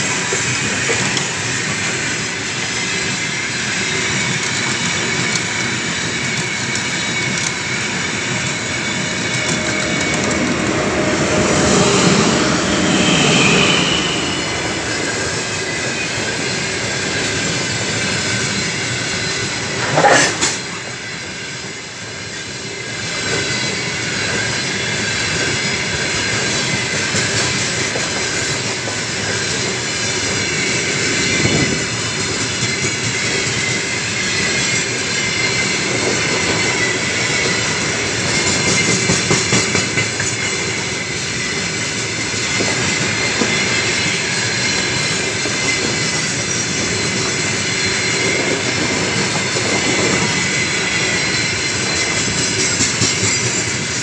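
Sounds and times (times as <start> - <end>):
loud metallic noise: 0.0 - 21.8, 22.5 - 54.0
steel wheels rumbling on rail: 0.0 - 54.0
wheels squealing: 0.5 - 20.4, 23.0 - 54.0.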